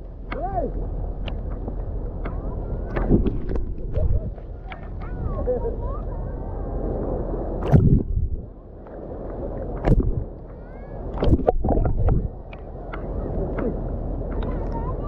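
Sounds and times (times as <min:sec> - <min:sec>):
small waves splashing: 0:00.0 - 0:15.0.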